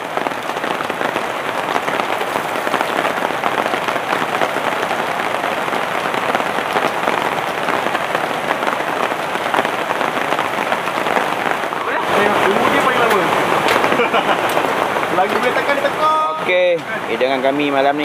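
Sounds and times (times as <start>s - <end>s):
rain pattering: 0.0s - 18.0s
river rushing: 0.0s - 18.0s.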